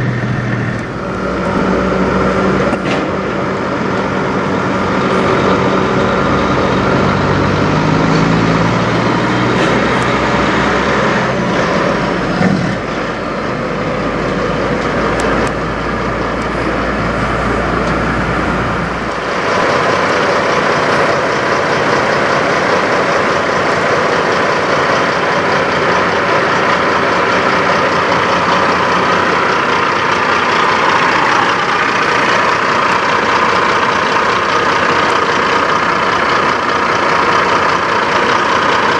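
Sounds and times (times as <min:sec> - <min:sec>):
diesel truck engine rumbling: 0:00.0 - 0:38.9
truck idling: 0:00.0 - 0:38.9.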